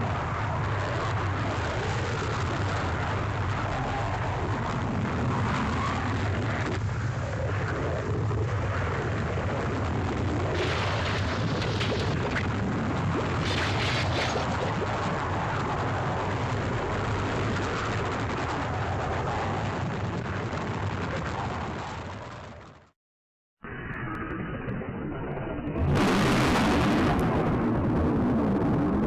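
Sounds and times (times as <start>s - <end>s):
deep rumble: 0.0s - 22.9s, 23.6s - 29.0s.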